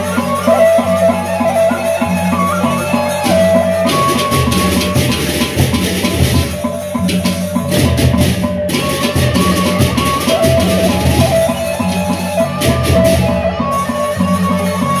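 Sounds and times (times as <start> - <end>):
hand cymbals clashing: 0.0 - 15.0
large drums pulsing: 0.0 - 15.0.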